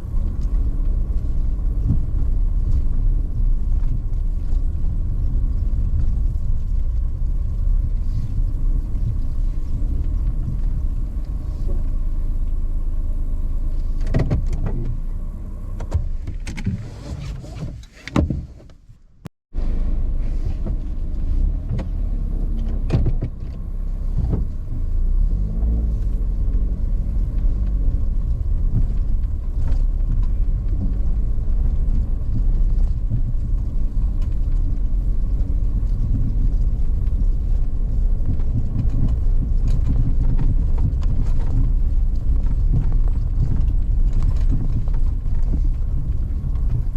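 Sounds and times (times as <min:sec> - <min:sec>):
car driving rumble: 0:00.0 - 0:46.9.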